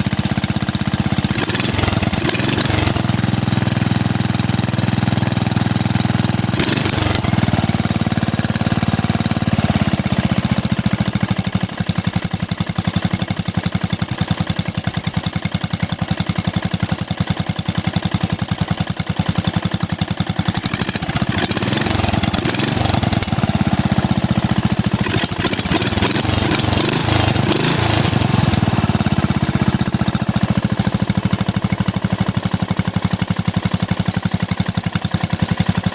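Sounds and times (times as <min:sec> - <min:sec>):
small lawn mower engine running: 0:00.0 - 0:35.9.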